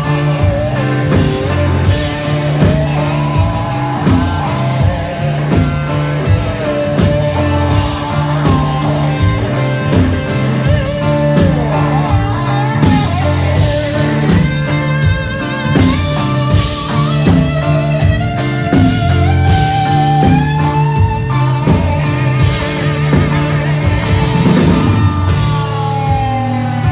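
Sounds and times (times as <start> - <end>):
bass: 0.0 - 26.9
lead guitar with bent notes: 0.0 - 26.9
steady drum beat: 0.0 - 26.9.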